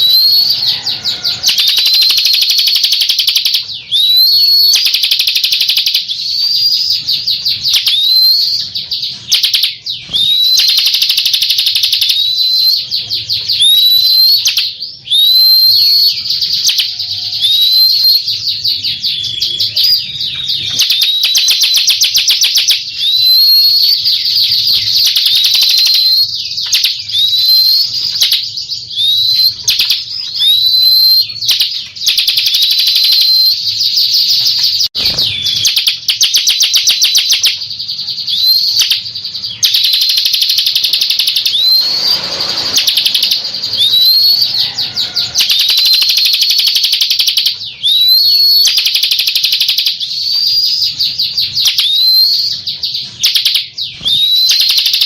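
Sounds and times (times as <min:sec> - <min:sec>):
bird buzzy trills: 0:00.0 - 0:55.0
rising whistled bird notes: 0:00.0 - 0:55.0.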